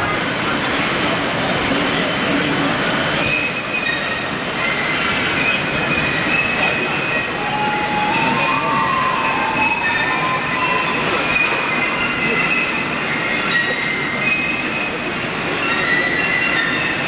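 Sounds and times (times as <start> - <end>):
train rolling noise: 0.0 - 17.0
train wheels squealing: 0.0 - 17.0.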